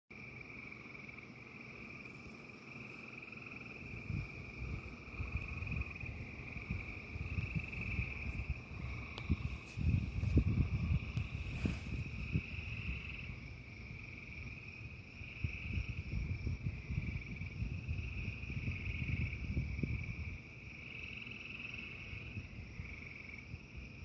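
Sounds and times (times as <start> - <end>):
frogs trilling: 0.2 - 24.0.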